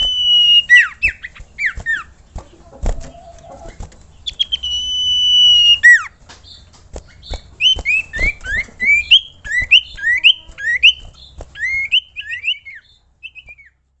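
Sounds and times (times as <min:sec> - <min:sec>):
bird singing whistled notes: 0:00.0 - 0:02.1, 0:04.2 - 0:13.8.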